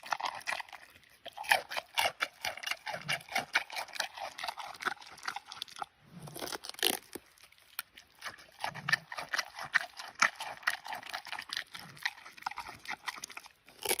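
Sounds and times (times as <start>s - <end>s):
panda chewing with wet crunches: 0.0s - 14.0s.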